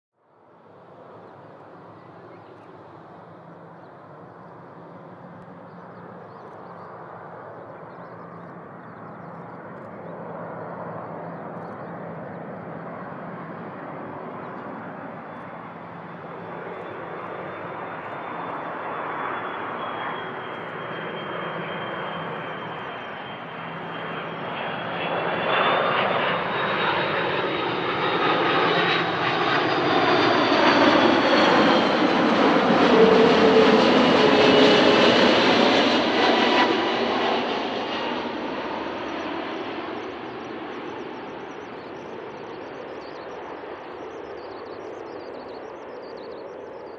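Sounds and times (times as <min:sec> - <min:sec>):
jet airliner approaching: 0:00.2 - 0:46.9.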